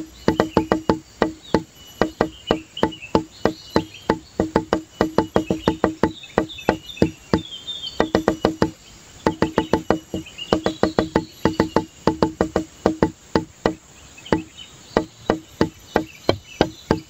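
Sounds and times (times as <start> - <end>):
high chirping notes: 0.0 - 17.0
wood-block-like knocks: 0.0 - 17.0.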